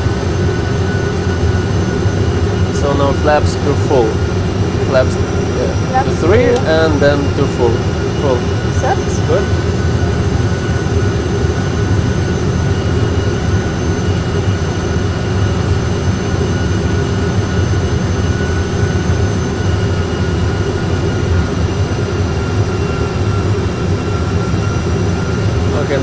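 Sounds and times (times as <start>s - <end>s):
low rumble of engine and airflow: 0.0s - 26.0s.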